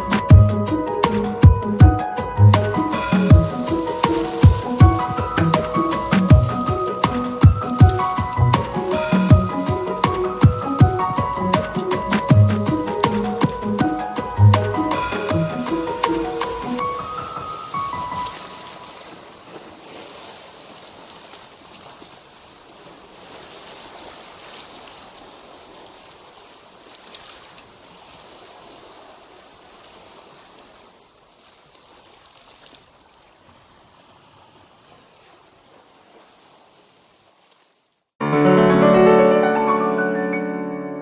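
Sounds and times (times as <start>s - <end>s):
surf washing against rocks: 2.6s - 37.8s.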